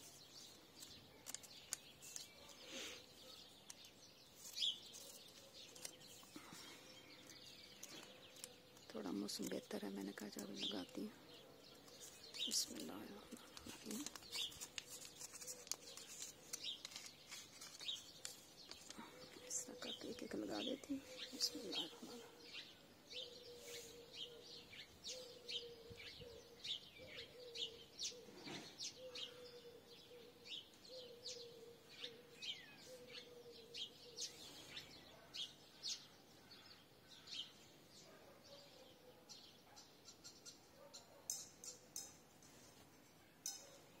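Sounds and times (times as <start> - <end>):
faint birds chirping: 0.0 - 44.0.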